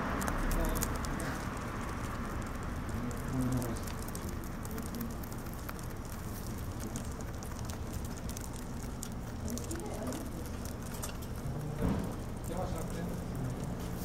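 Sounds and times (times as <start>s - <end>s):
low steady background hum: 0.0s - 14.0s
rabbit chewing crunching: 0.0s - 14.0s.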